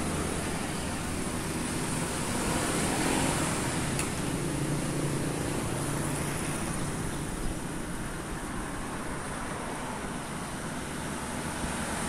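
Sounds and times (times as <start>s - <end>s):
motorcycles and cars passing: 0.0s - 12.0s.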